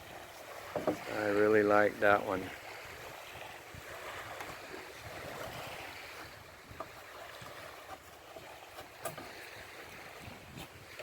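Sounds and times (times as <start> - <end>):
surf washing on beach: 0.0 - 11.0
wind on microphone: 2.1 - 11.0.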